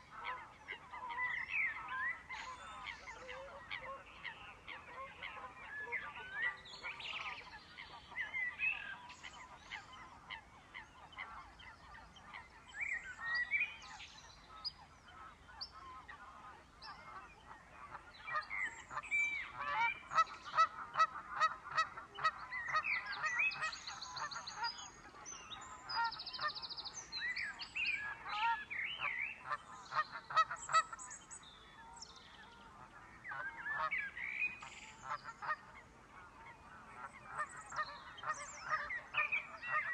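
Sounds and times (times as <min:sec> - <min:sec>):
wetland birds calling: 0:00.0 - 0:39.9.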